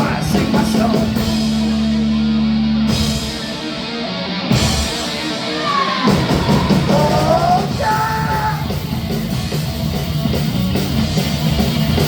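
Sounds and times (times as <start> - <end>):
bending guitar line: 0.0 - 9.7
punk rock band playing: 0.0 - 12.0.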